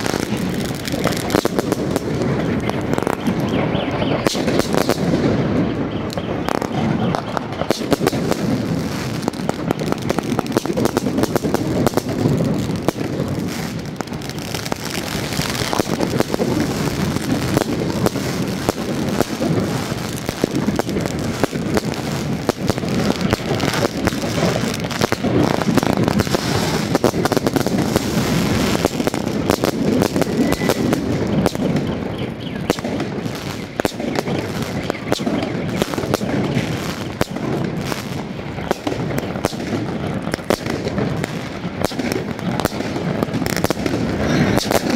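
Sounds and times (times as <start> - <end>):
fireworks and firecrackers banging: 0.0 - 44.9.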